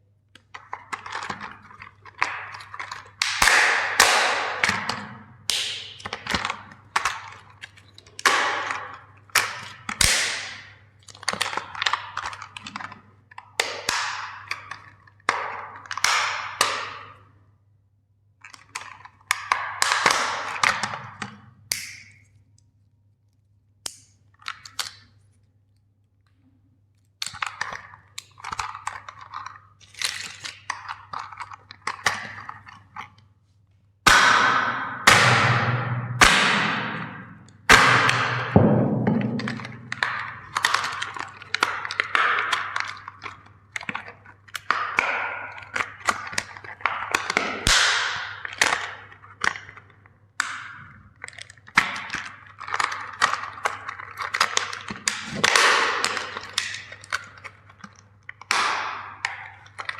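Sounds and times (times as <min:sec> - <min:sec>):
plastic toys cracking: 0:00.4 - 0:17.3, 0:18.4 - 0:22.6, 0:23.3 - 0:25.4, 0:27.0 - 0:33.3, 0:34.0 - 0:59.9.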